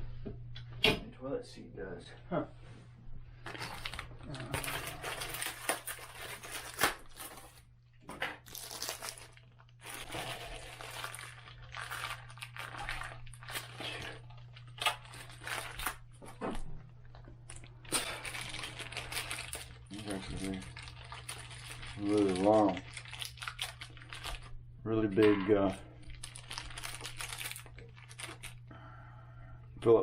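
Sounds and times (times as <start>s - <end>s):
steady low hum: 0.0s - 6.6s, 9.6s - 30.0s
crinkling and rustling of items: 3.3s - 28.7s.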